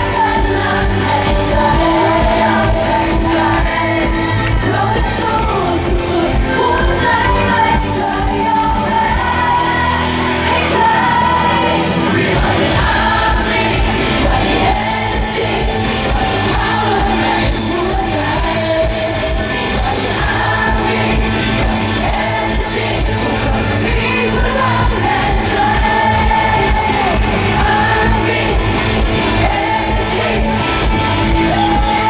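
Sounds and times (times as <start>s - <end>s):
male singers: 0.0s - 32.0s
pop band with drum beat: 0.0s - 32.0s.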